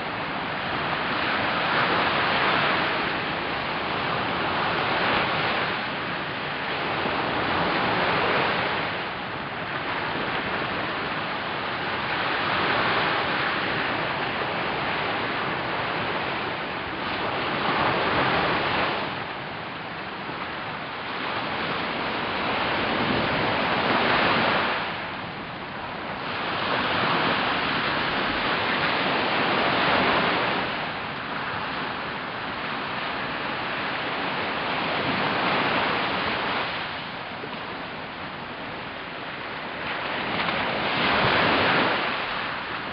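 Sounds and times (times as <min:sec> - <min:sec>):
small waves washing on beach: 0:00.0 - 0:42.9.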